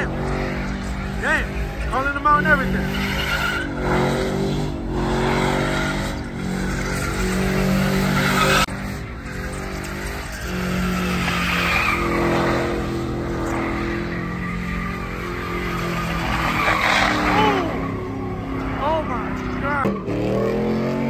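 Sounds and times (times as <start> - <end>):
tyres squealing: 0.0 - 20.5
truck engine revving: 0.0 - 21.0.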